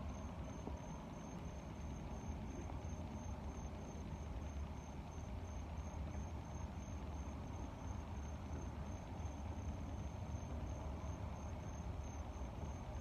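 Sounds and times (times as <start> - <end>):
cricket chirping: 0.0 - 13.0
low hum of moving air: 0.0 - 13.0.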